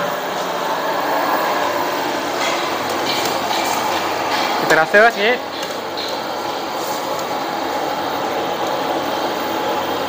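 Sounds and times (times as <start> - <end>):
stove rushing noise: 0.0 - 10.0.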